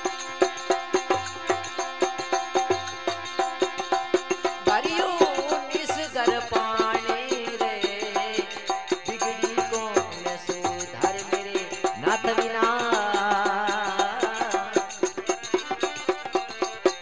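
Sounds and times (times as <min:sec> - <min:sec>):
dholak drum rhythm: 0:00.0 - 0:17.0.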